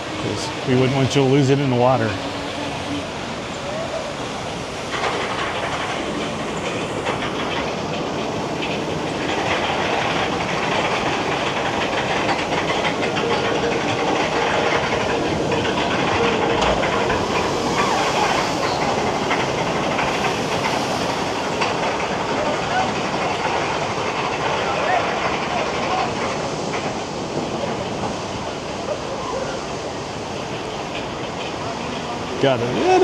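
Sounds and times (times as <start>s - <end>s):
water rushing and splashing: 0.0s - 33.0s.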